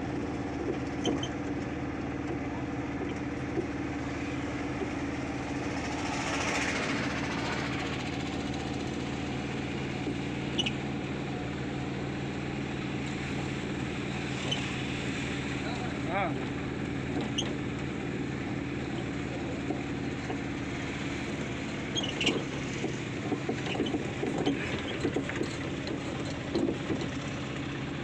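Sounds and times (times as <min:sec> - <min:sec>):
road and cab noise: 0:00.0 - 0:28.0
truck engine droning: 0:00.0 - 0:28.0.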